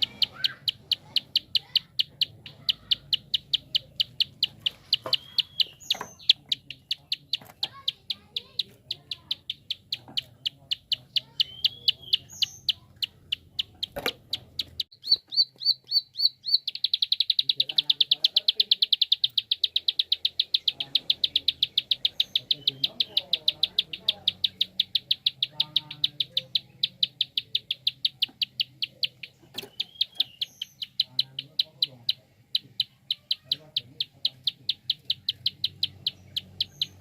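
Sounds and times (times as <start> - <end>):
bird clicking call: 0.0 - 37.0.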